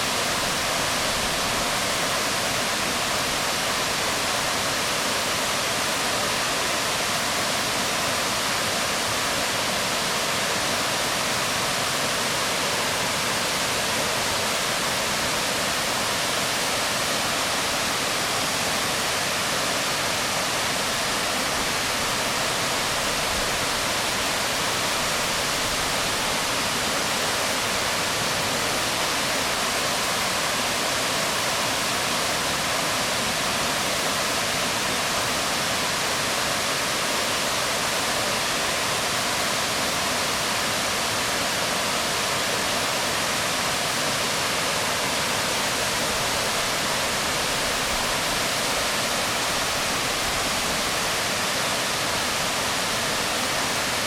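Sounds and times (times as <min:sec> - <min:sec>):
waterfall rushing onto rocks: 0:00.0 - 0:54.0.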